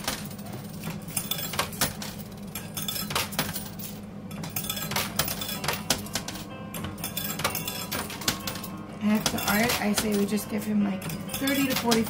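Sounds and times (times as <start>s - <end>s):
coins clinking in machine: 0.0s - 12.0s
steady low hum: 0.0s - 12.0s.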